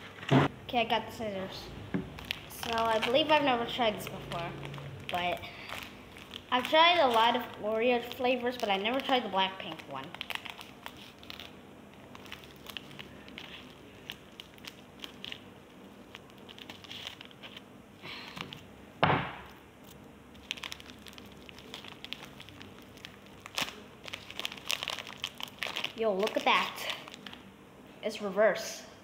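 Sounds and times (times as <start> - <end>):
plastic wrapper crinkling: 2.1 - 18.6, 19.8 - 27.4.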